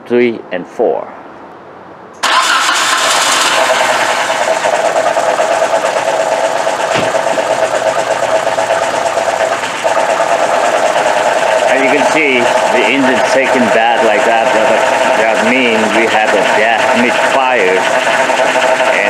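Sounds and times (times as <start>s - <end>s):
car engine running rough: 2.2s - 19.0s.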